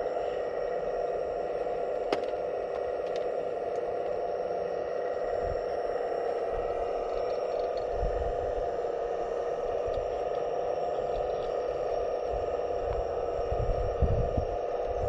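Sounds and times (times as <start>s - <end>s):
electric whine of hydraulic pumps: 0.0s - 15.0s.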